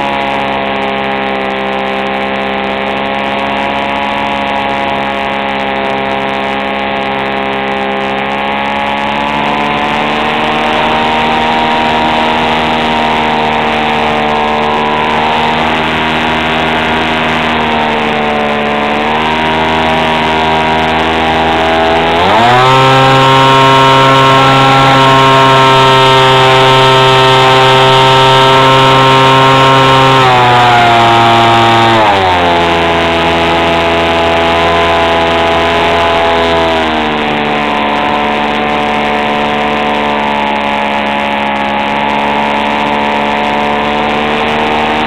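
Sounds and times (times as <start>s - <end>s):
model plane motor and propeller: 0.0s - 45.0s.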